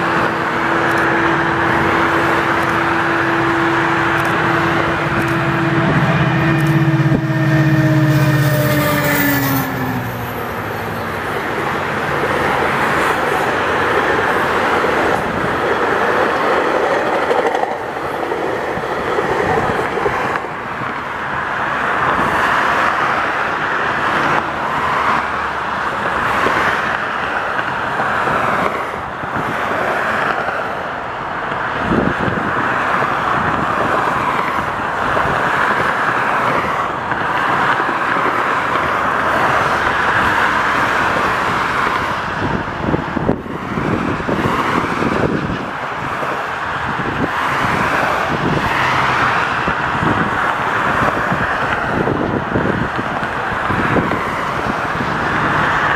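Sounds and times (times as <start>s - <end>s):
traffic passing: 0.0s - 55.9s.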